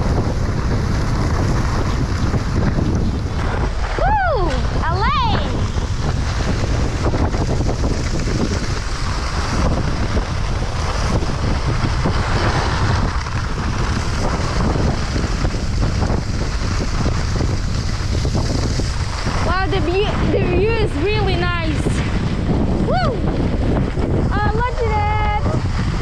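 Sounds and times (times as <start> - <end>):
skis scraping on snow: 0.0 - 26.0
wind buffeting microphone: 0.0 - 26.0.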